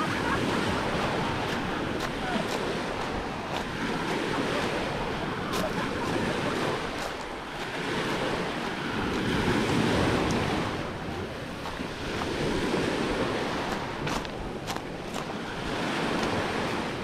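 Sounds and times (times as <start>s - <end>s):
waves washing on pebble beach: 0.0s - 17.0s
wind buffeting microphone: 0.0s - 17.0s.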